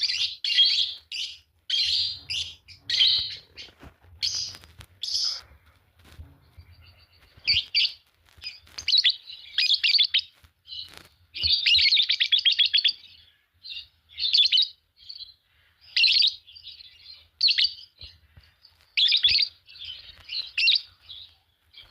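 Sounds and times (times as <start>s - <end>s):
lovebirds chirping and chattering: 0.0s - 21.9s.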